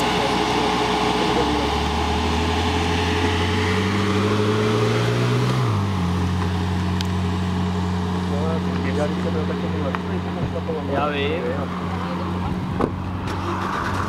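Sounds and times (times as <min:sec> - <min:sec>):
car engine pulling away: 0:00.0 - 0:14.0.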